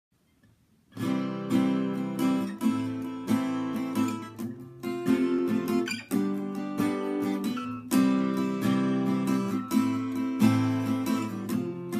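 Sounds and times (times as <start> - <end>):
acoustic guitar strumming chords: 1.0 - 11.9.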